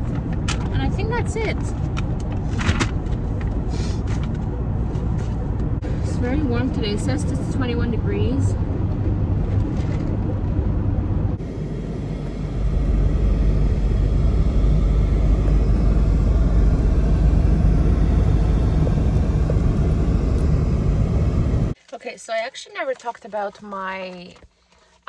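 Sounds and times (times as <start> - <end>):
road and engine rumble in car: 0.0 - 21.8.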